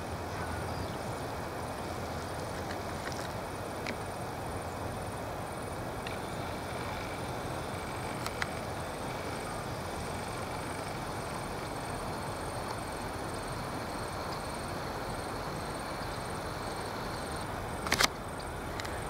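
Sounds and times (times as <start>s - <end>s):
distant diesel locomotives: 0.0s - 19.0s.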